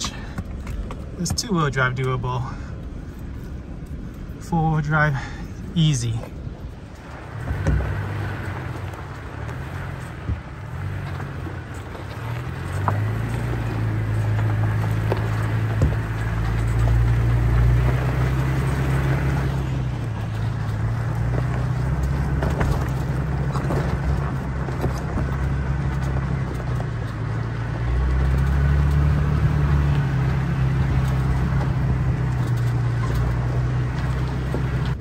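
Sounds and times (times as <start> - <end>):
pickup engine hum: 0.0 - 35.0
tyres crunching over gravel: 0.0 - 35.0.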